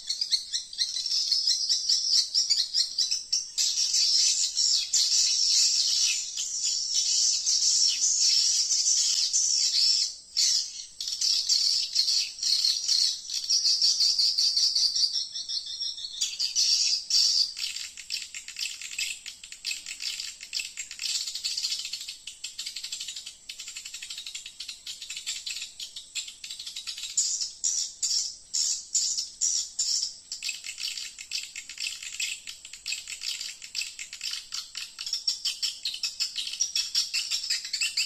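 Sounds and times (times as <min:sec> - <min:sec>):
swiftlets chirping and twittering: 0:00.0 - 0:38.0.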